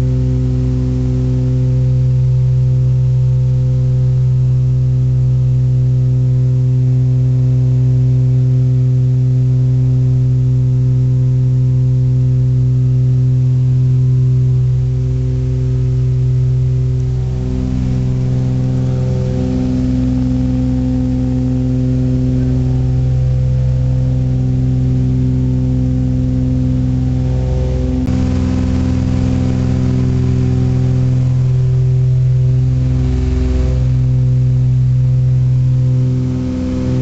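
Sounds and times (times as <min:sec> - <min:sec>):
propeller plane cabin drone: 0:00.0 - 0:37.0.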